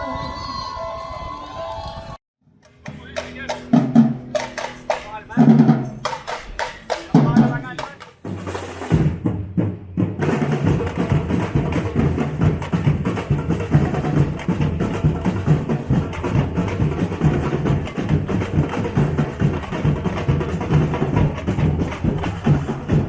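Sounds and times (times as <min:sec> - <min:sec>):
drums beating fast rhythm: 0:02.6 - 0:23.0.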